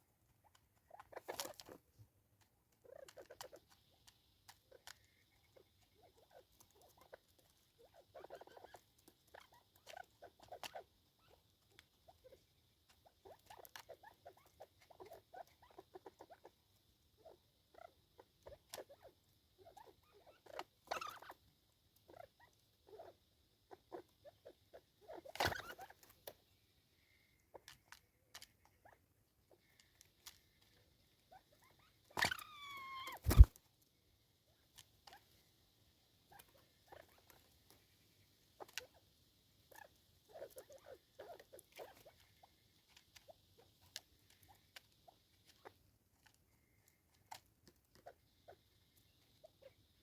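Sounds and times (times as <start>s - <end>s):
small animal feeding clicks: 0.2s - 33.9s, 36.2s - 50.0s.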